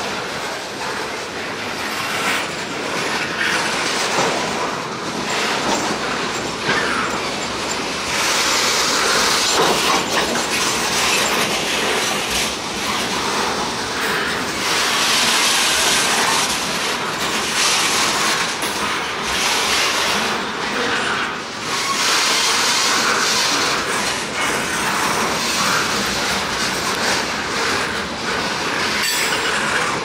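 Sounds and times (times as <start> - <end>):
freight cars wheels on rails: 0.0 - 30.0.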